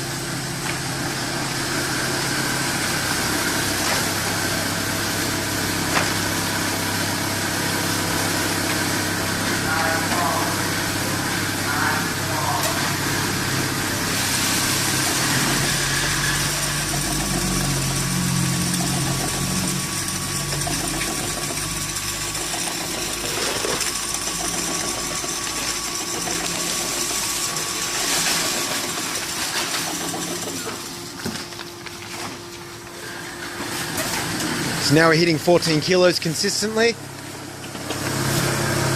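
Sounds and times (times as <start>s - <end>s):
electric motor hum: 0.0s - 38.9s.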